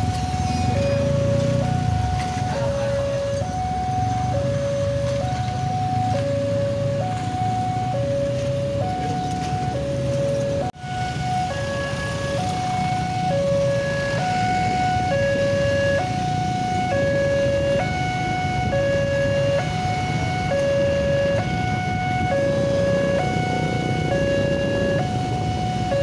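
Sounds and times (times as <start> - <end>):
motorcycle and car traffic rumble: 0.0 - 26.0
level crossing two-tone alarm: 0.2 - 26.0.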